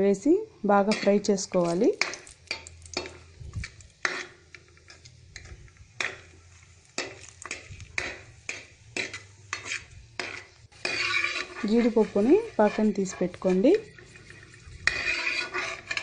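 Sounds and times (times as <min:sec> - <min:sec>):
nuts frying in oil: 0:00.0 - 0:16.0
metal ladle scraping a pot: 0:00.8 - 0:06.4, 0:07.0 - 0:16.0.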